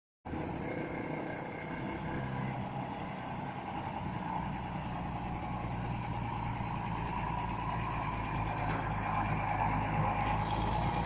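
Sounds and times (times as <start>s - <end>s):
diesel truck driving by: 0.3s - 11.0s.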